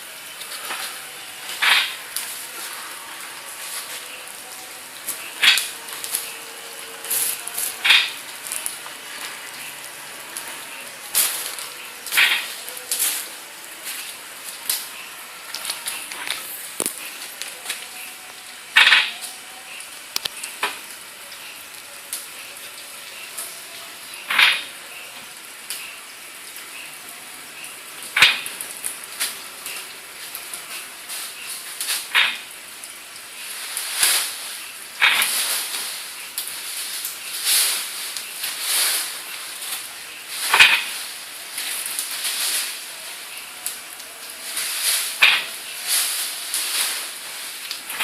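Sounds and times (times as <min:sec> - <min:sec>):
plastic sheet crackling and rustling: 0:00.0 - 0:26.0, 0:27.8 - 0:48.0
steady hiss: 0:00.0 - 0:48.0.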